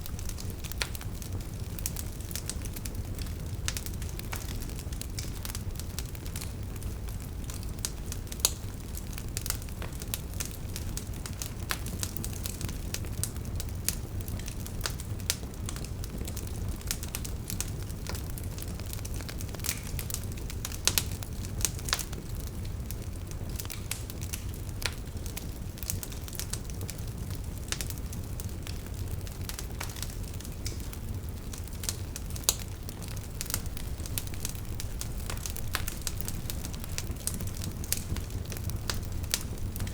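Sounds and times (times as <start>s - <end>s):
flames rumbling: 0.0s - 39.9s
logs crackling and popping: 0.0s - 39.9s.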